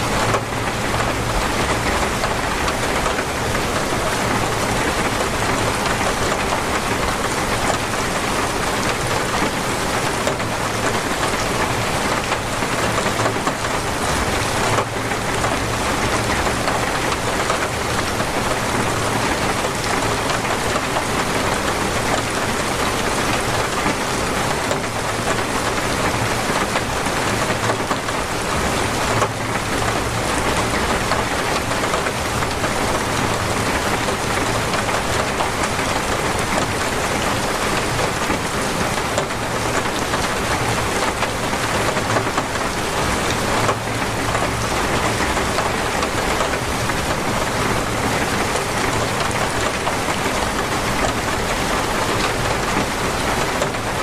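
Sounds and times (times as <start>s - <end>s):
torrential rain: 0.0s - 54.0s.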